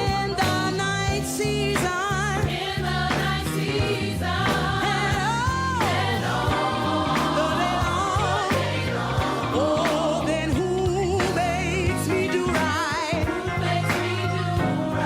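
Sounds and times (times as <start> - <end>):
gospel choir singing: 0.0 - 15.0
keyboard and bass accompaniment: 0.0 - 15.0.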